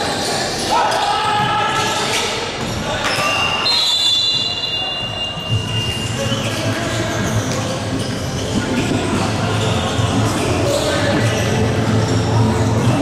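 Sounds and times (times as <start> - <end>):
players' voices echoing: 0.0 - 13.0
shoe squeals on hardwood court: 0.1 - 12.7.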